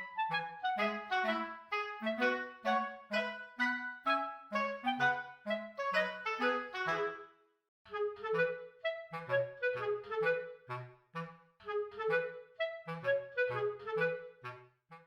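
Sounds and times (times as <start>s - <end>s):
woodwind playing short detached notes: 0.0s - 7.3s, 7.9s - 14.6s.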